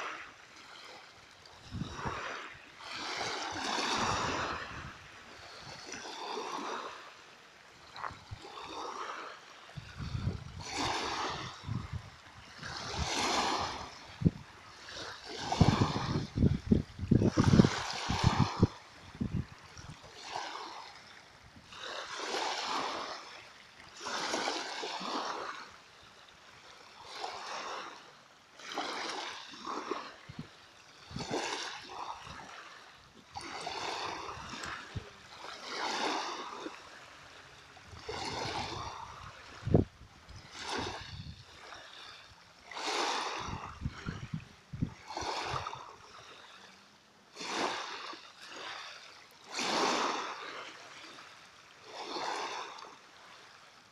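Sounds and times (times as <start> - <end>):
small waves lapping: 0.0 - 53.9.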